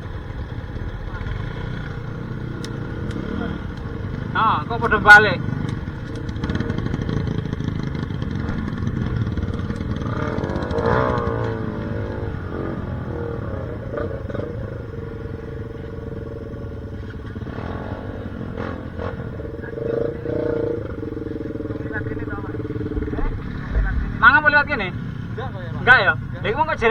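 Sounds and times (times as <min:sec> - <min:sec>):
trail motorcycle engines running: 0:00.0 - 0:26.9.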